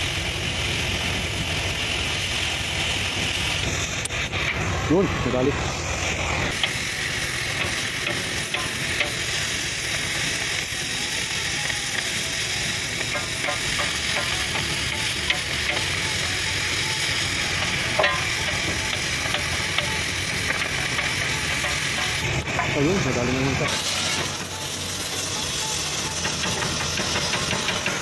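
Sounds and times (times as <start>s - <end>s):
cutting torch flame hissing: 0.0s - 28.0s
molten metal sparks crackling: 0.0s - 28.0s.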